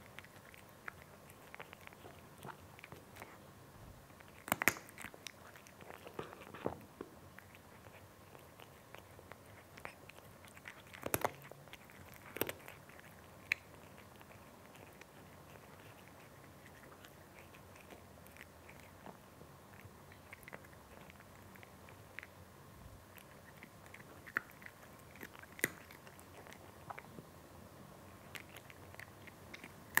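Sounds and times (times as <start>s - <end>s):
cat crunching dry kibble: 0.0s - 3.4s, 4.1s - 22.4s, 23.1s - 27.2s, 28.1s - 30.0s.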